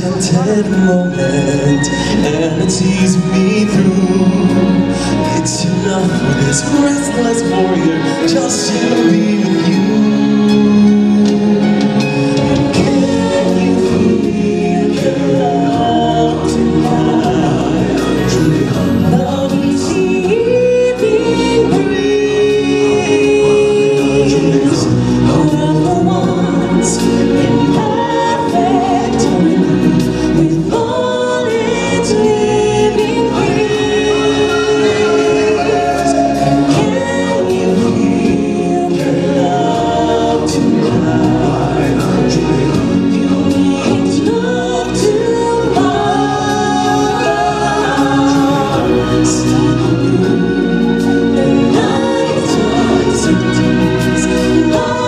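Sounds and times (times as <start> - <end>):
choir singing: 0.0 - 55.0
instrumental backing music: 0.0 - 55.0.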